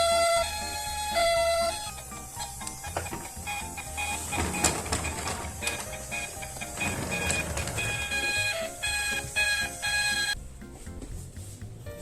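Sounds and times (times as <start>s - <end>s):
toy siren beeping: 0.0s - 10.4s
background music: 0.0s - 12.0s.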